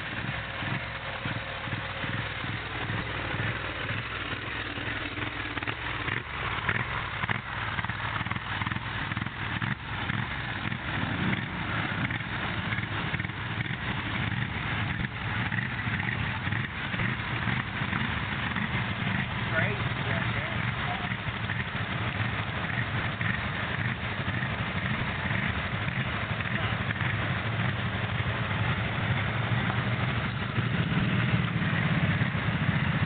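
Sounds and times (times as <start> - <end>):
choppy vehicle engine running: 0.0 - 33.0.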